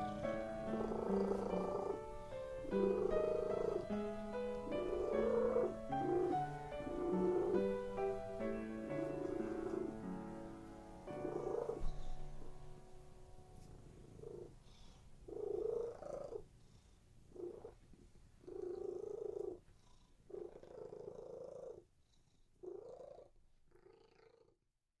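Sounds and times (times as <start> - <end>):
cat purring: 0.0 - 24.8.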